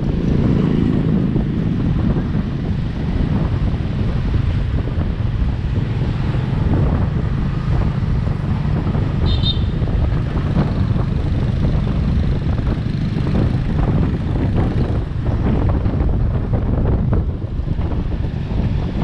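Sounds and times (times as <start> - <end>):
motor scooters rumbling: 0.0 - 19.0
wind rushing over microphone: 0.0 - 19.0.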